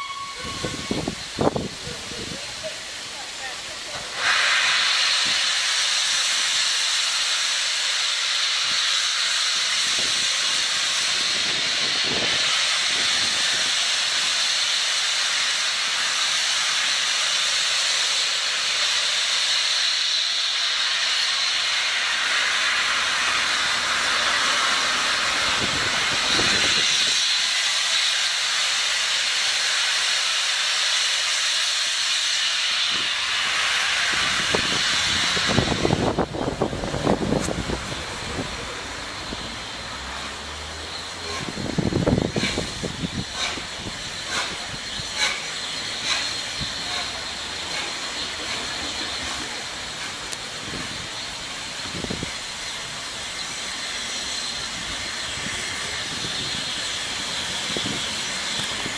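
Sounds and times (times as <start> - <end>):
steam locomotive hissing: 0.0 - 58.9.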